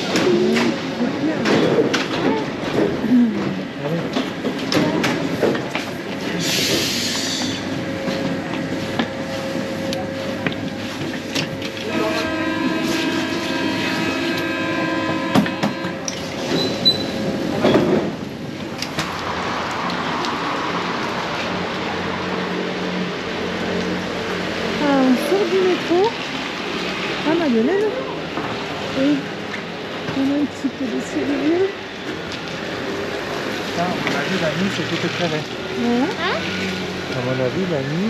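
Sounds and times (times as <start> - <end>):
train rumble and rattle: 0.0 - 38.0.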